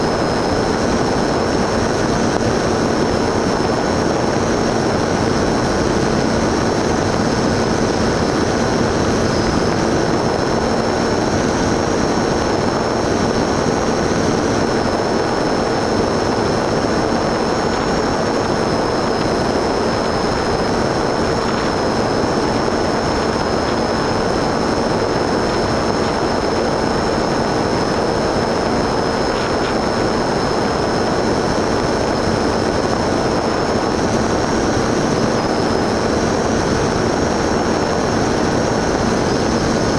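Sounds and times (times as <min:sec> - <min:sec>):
model aircraft motor whine: 0:00.0 - 0:39.9.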